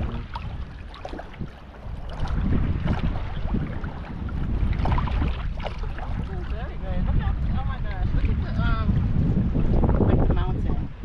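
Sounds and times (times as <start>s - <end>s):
sea water lapping: 0.0s - 11.0s
wind buffeting microphone: 0.0s - 11.0s.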